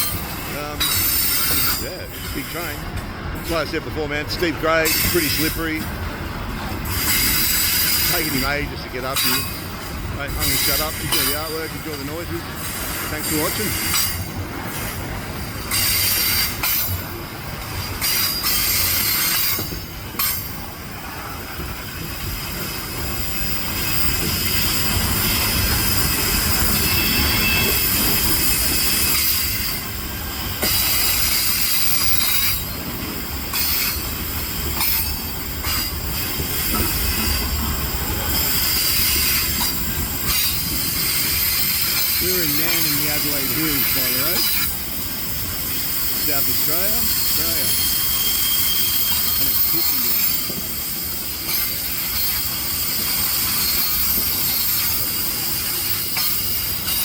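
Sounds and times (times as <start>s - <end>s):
freight train low rumble: 0.0s - 57.0s
steel wheel and rail noise: 0.0s - 57.0s.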